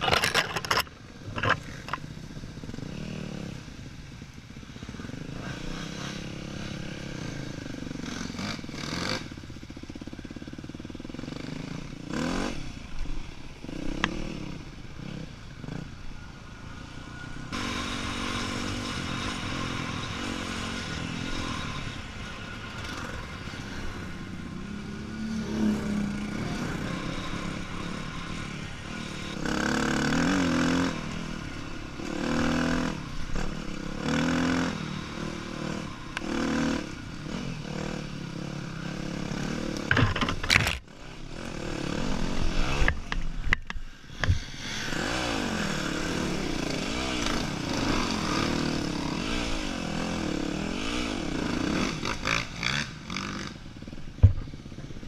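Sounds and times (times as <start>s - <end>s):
dirt bike engine revving: 4.8s - 43.1s, 44.3s - 55.0s.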